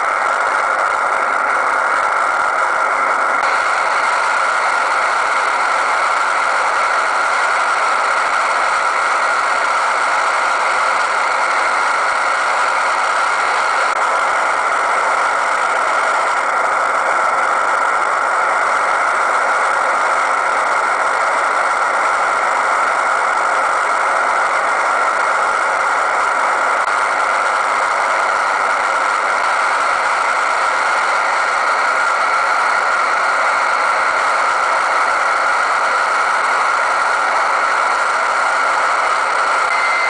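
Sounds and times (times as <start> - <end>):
radio receiver hiss: 0.0 - 40.0.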